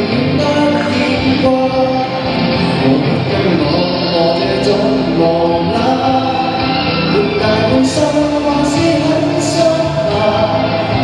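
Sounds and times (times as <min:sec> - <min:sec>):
instrumental accompaniment: 0:00.0 - 0:11.0
man singing a pop ballad: 0:00.0 - 0:11.0.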